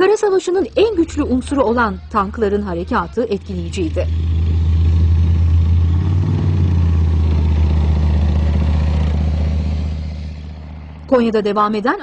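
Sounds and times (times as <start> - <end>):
tank engine droning: 0.0 - 12.0.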